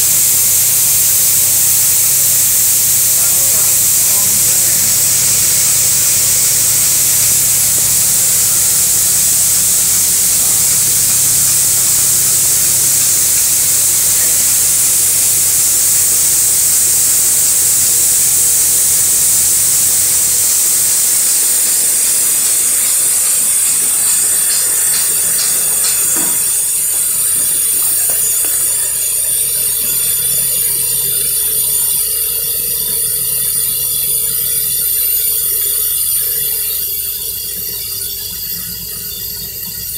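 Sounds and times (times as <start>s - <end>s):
loud steady air hiss: 0.0s - 38.8s
high whistling tones: 0.1s - 39.2s.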